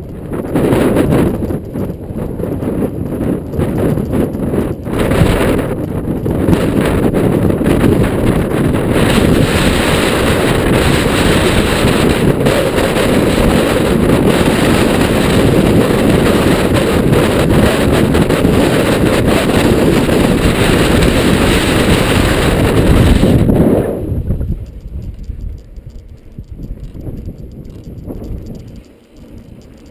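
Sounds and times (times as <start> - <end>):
bike clicks and rattles: 0.0 - 29.9
wind buffeting microphone: 0.0 - 29.9.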